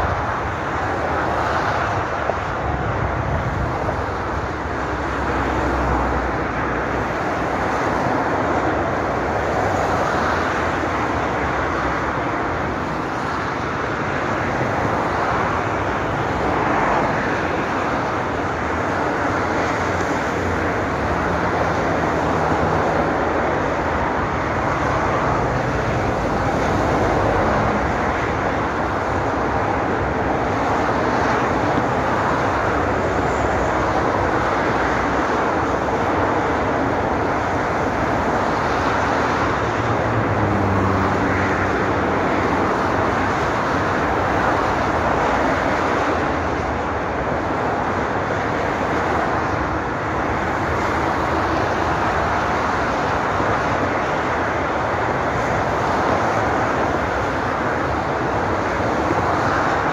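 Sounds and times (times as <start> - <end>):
motorway traffic: 0.0 - 59.9
vehicle engine drone: 0.0 - 59.9.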